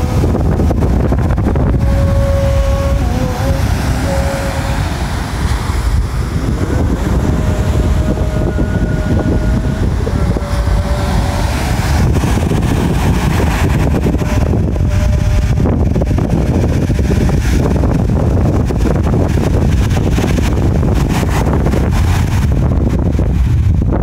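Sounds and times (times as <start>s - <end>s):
waves breaking on beach: 0.0s - 24.0s
wind buffeting microphone: 0.0s - 24.0s.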